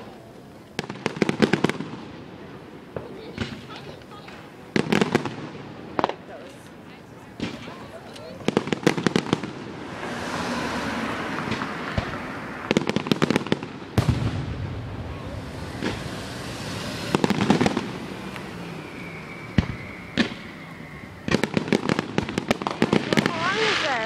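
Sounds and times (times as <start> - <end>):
firework bangs: 0.0 - 24.0
firework crackling: 0.0 - 24.0.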